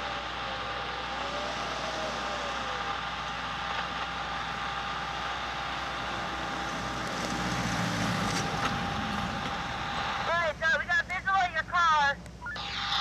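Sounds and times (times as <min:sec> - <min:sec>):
car engine running at low speed: 0:00.0 - 0:11.2.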